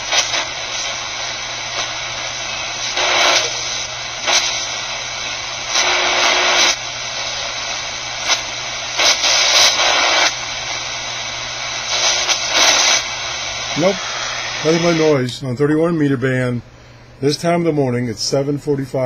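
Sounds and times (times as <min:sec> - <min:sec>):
radio static hiss: 0:00.0 - 0:16.6.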